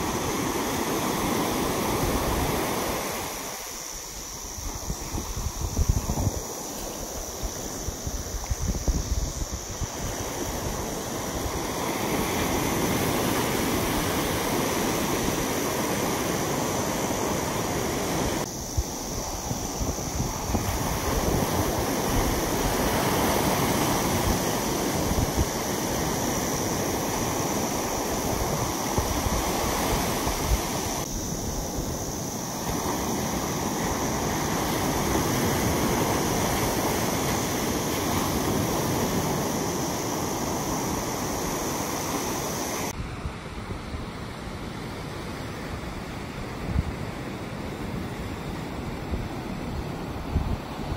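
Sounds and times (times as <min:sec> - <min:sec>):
waves breaking on sandy beach: 0:00.0 - 0:50.9.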